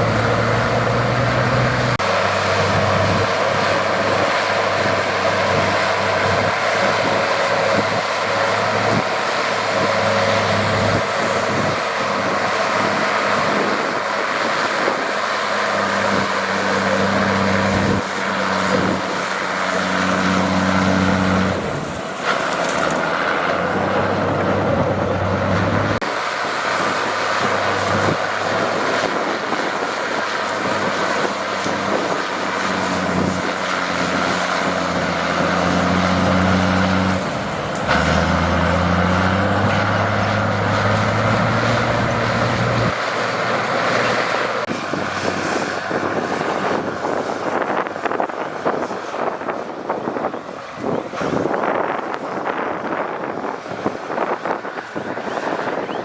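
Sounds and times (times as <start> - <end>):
diesel machinery running under load: 0.0 - 56.0.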